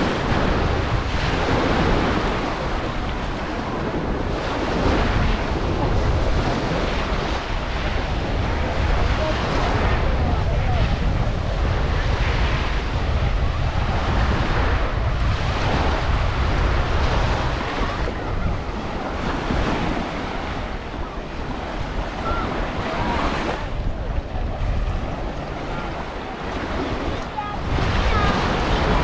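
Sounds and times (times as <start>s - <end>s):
surf washing onto beach: 0.0s - 29.0s
wind rumbling on microphone: 0.0s - 29.0s.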